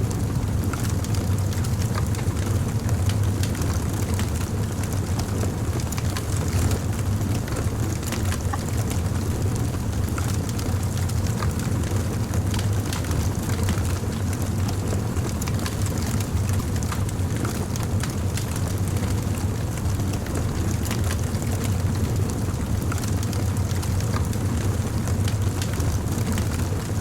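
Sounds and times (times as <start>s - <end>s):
fire crackling: 0.0s - 27.0s.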